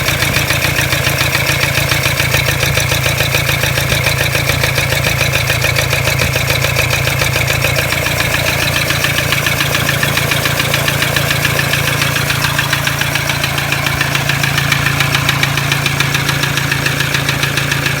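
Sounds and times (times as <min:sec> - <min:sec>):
diesel engine idling with knock: 0:00.0 - 0:18.0.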